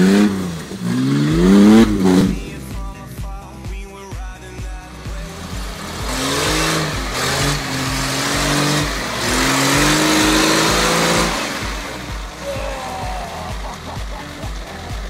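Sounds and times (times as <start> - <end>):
tyres and mud spray rushing: 0.0 - 3.2, 4.8 - 15.0
background music beat: 0.0 - 15.0
off-road vehicle engine revving: 0.0 - 15.0.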